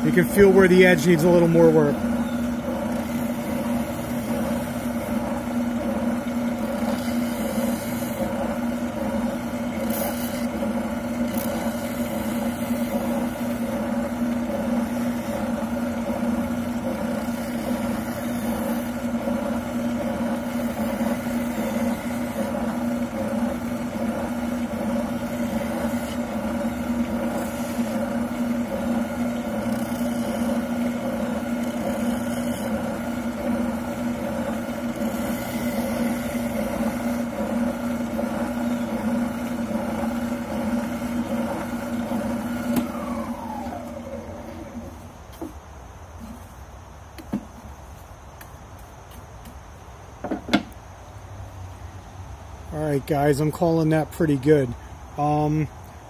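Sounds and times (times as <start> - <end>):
oscillating sander running: 0.0 - 45.4.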